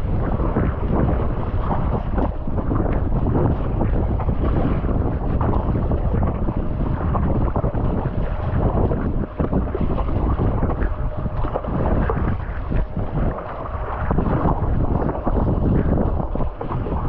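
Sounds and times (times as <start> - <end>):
choppy sea water splashing: 0.0 - 17.0
wind buffeting microphone: 0.0 - 17.0.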